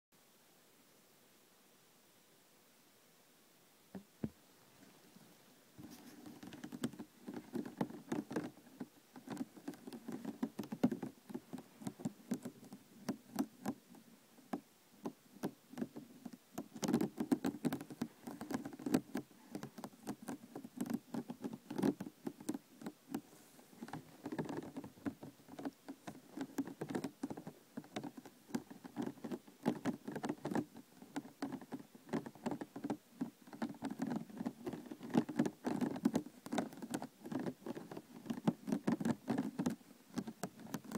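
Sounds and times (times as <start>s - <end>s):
fingers tapping plastic container: 6.2s - 13.8s, 14.5s - 23.2s, 23.8s - 40.9s.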